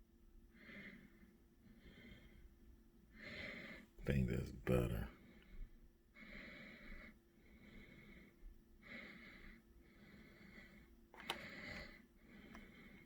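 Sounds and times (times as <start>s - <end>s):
faint breathing: 0.5s - 4.0s, 5.1s - 13.0s.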